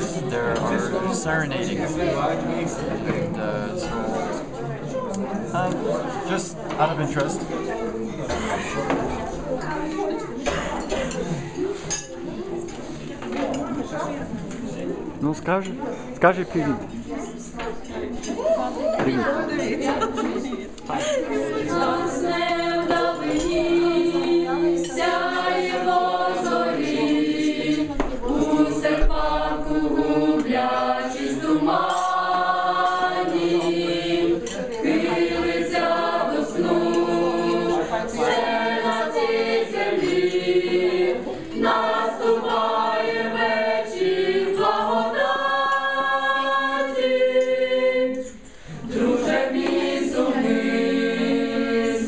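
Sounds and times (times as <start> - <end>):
youth choir singing a cappella: 0.0 - 14.8, 18.6 - 52.0.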